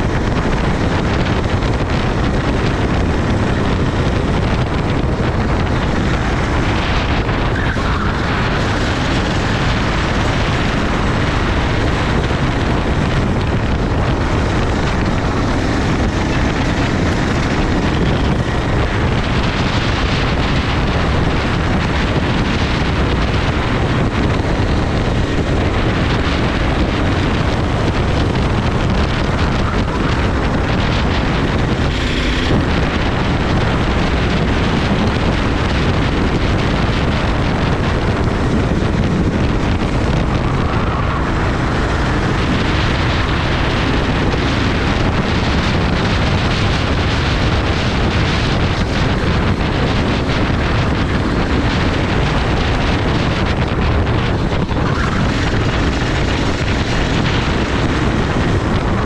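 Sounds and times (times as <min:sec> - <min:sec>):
racing kart engine running: 0:00.0 - 0:59.0
wind buffeting microphone: 0:00.0 - 0:59.0.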